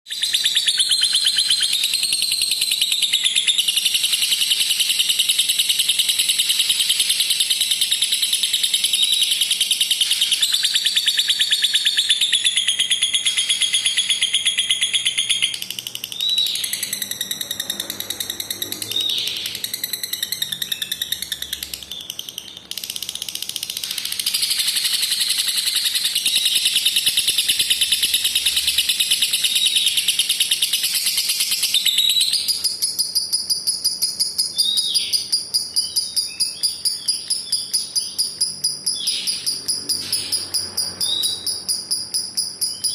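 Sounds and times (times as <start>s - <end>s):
lovebird chattering trill: 0.1s - 42.9s
lovebird chirps: 0.1s - 42.9s.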